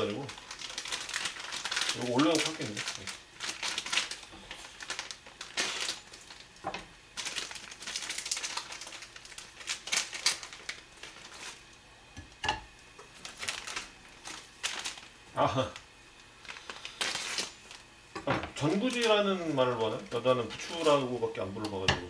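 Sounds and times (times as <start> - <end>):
plastic wrapper crinkling: 0.0 - 11.8, 13.0 - 18.0, 18.6 - 21.8.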